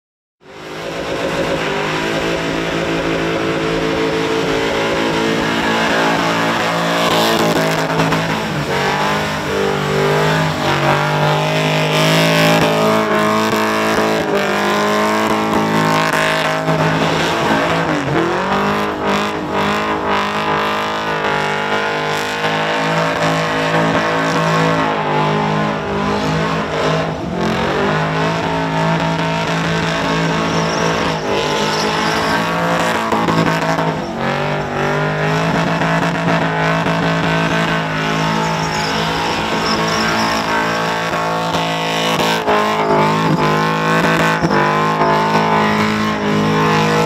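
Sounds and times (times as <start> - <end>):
car engine at high revs: 0.4 - 47.0.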